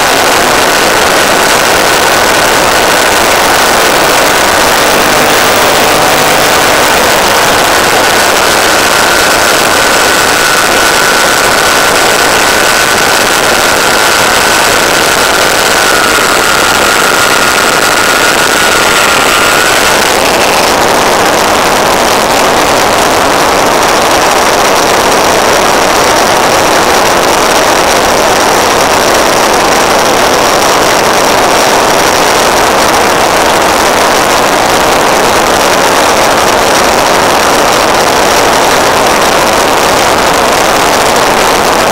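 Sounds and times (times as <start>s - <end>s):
thin motor whine: 0.1s - 41.8s.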